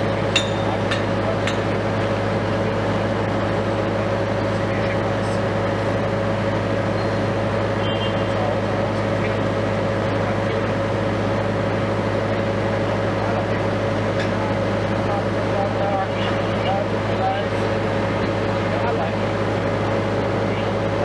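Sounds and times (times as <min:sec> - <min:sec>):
crane diesel engine running: 0:00.0 - 0:21.0
steady whine: 0:00.0 - 0:21.0.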